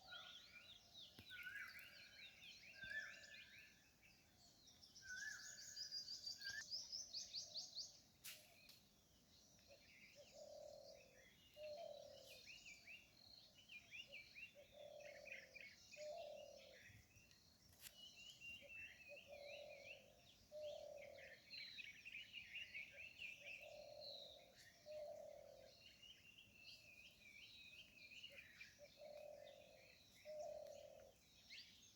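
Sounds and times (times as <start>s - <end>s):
birds chirping and trilling: 0.0s - 8.1s, 9.2s - 31.9s.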